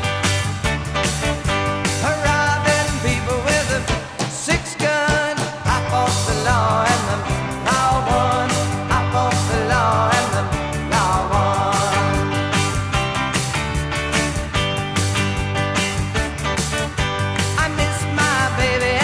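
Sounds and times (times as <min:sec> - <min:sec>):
bass: 0:00.0 - 0:19.0
rock song with sung vocals: 0:00.0 - 0:19.0
steady drum beat: 0:00.0 - 0:19.0.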